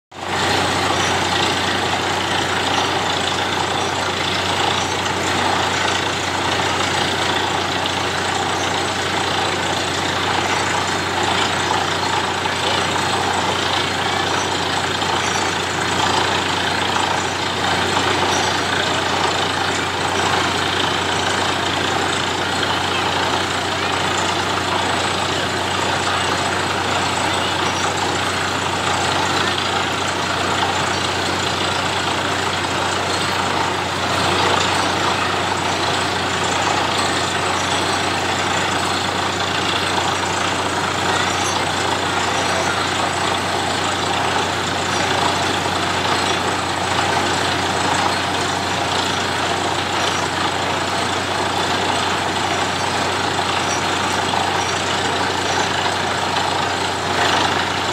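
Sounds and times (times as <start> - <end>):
drilling rig engine drone: 0.1 - 57.9.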